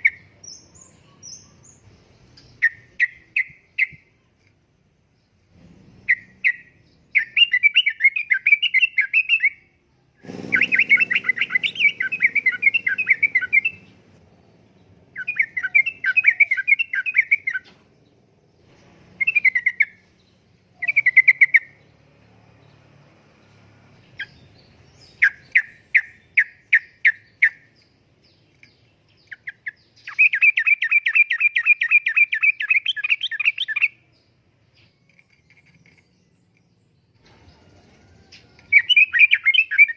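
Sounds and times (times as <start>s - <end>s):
bird singing chattering notes: 0.0s - 4.2s, 5.2s - 9.7s, 10.3s - 22.0s, 24.0s - 37.2s, 38.6s - 39.9s.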